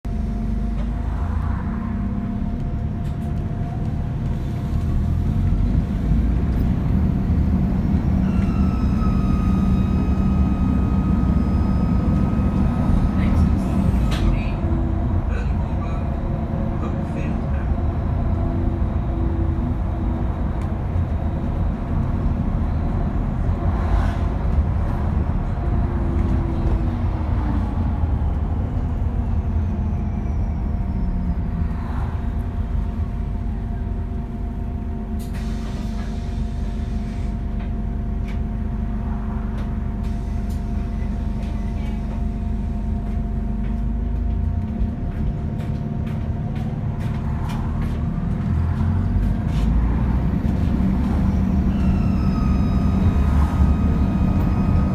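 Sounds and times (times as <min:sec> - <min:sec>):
bus engine rumble: 0:00.0 - 0:54.9.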